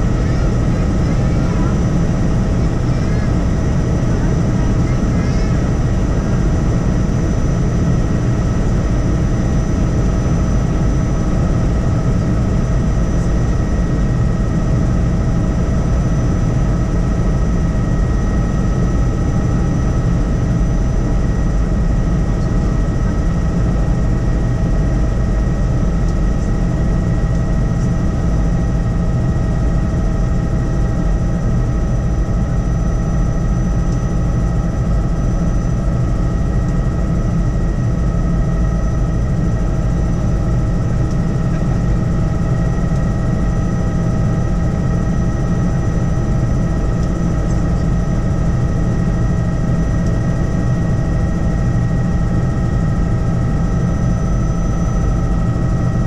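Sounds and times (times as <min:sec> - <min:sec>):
helicopter rotor drone: 0:00.0 - 0:56.0.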